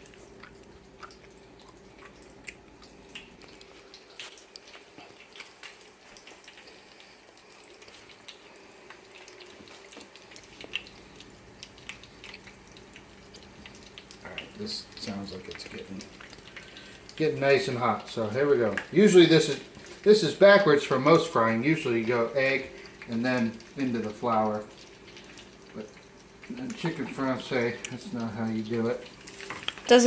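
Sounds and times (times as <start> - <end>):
fat crackling and popping: 0.0 - 30.0
low steady hum: 0.0 - 30.0.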